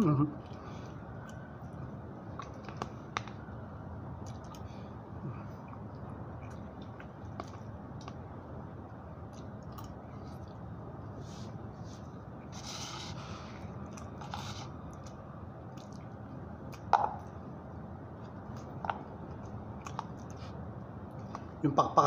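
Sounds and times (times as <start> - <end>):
steady background hum: 0.0 - 22.0
man chewing: 0.4 - 17.4, 18.1 - 21.6.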